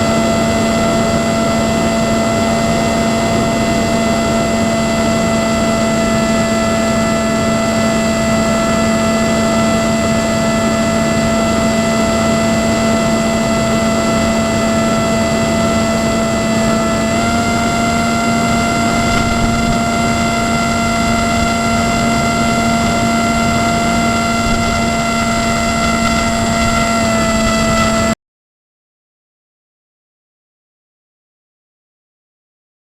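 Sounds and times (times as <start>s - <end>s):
drone propellers whirring: 0.0s - 28.2s.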